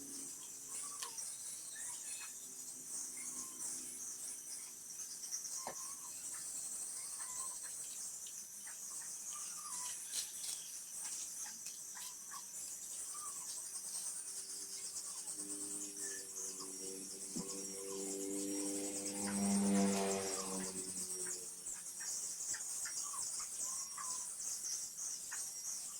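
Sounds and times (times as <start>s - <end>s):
crickets chirring: 0.0s - 25.9s
short insect chirps: 0.0s - 25.9s.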